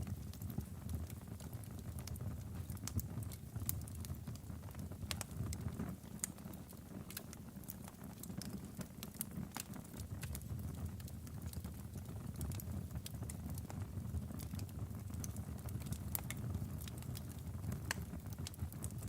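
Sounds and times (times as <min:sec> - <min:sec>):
wood logs crackling in fireplace: 0:00.0 - 0:19.0.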